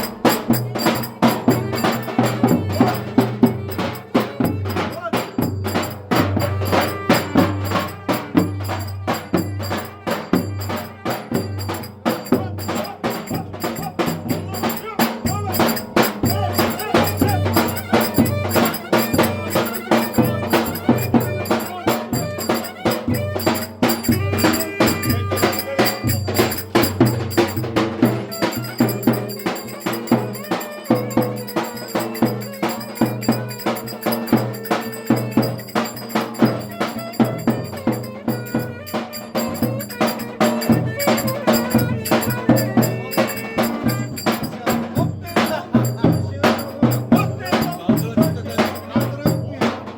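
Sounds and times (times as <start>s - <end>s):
held melody line: 0.0s - 49.6s
sharp clicking percussion beat: 0.0s - 49.9s.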